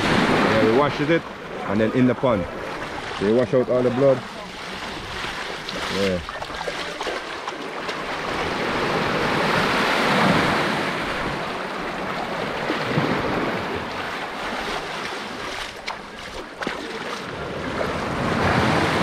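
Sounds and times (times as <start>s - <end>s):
seawater sloshing and splashing: 0.0s - 19.0s.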